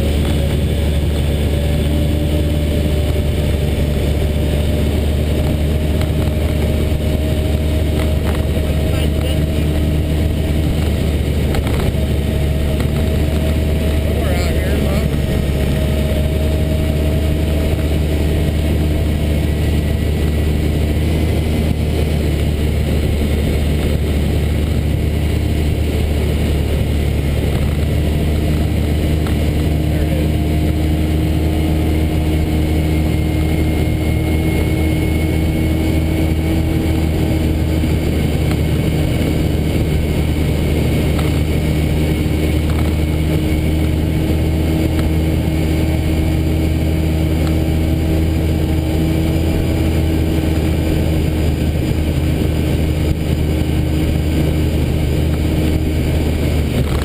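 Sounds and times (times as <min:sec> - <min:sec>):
wind noise on microphone: 0:00.0 - 0:14.1, 0:14.8 - 0:57.0
car engine: 0:00.0 - 0:57.0.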